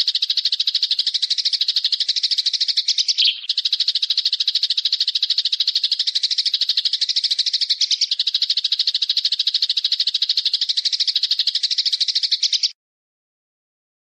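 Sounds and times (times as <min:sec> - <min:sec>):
songbird rattling trill: 0:00.0 - 0:12.8.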